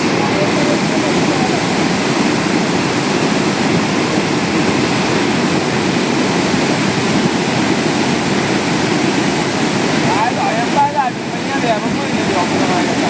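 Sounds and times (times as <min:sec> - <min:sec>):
river torrent rushing: 0:00.0 - 0:13.0.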